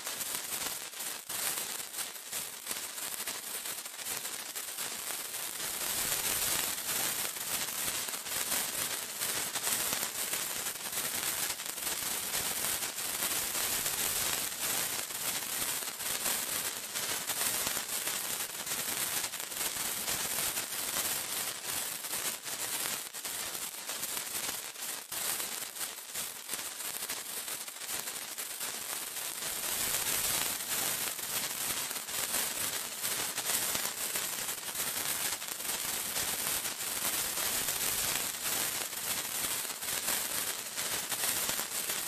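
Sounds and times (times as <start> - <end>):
sparkler fizzing and crackling: 0.0 - 42.0.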